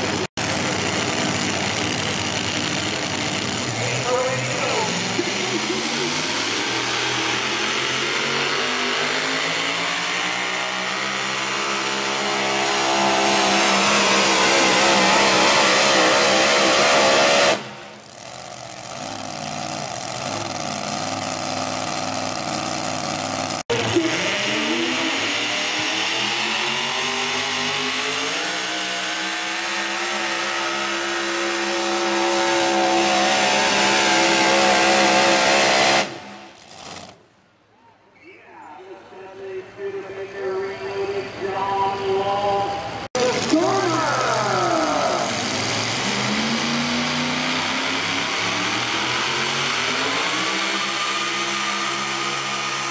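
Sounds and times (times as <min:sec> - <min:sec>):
truck engines at full throttle: 0:00.0 - 0:37.6, 0:38.8 - 0:52.9.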